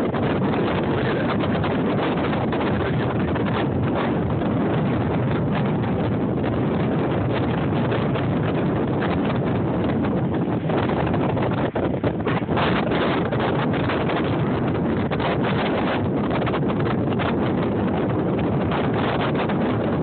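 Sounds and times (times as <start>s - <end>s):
rough surf churning: 0.0s - 20.0s
wind buffeting microphone: 0.0s - 20.0s.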